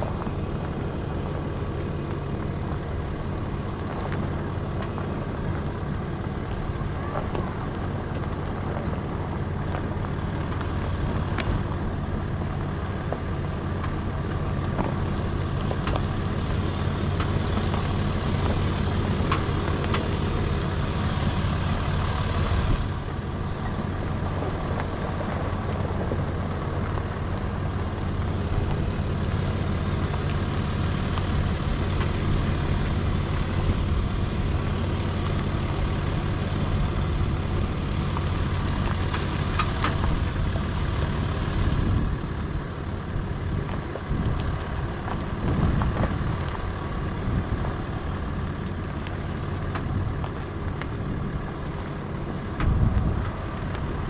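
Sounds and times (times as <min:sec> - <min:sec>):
car engine droning at low revs: 0:00.0 - 0:54.0.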